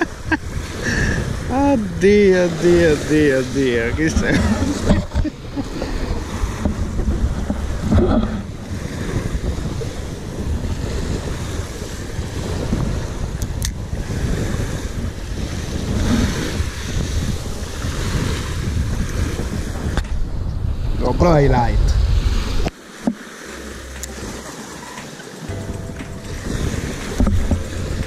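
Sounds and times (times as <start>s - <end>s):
waves on shingle beach: 0.0s - 20.0s, 20.8s - 28.0s
wind buffeting microphone: 0.0s - 28.0s.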